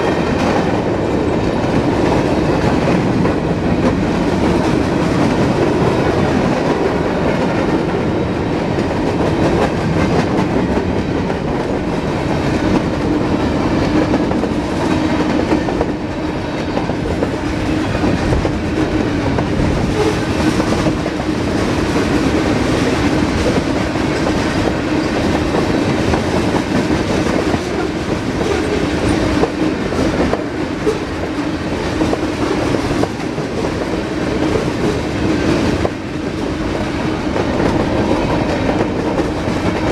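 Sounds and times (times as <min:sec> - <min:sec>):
freight train rumble: 0:00.0 - 0:39.9
steel wheels clicking on rail: 0:00.0 - 0:39.9.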